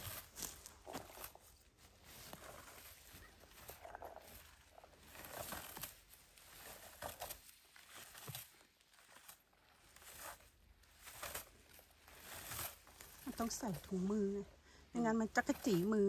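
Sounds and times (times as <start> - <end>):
scoop rustling through bushes: 0.0 - 16.0.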